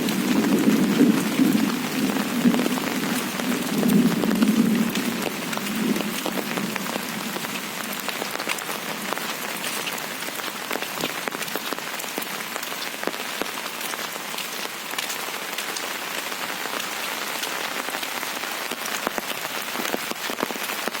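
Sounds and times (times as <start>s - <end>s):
raindrop ticks: 0.0s - 21.0s
steady rain hissing: 0.0s - 21.0s.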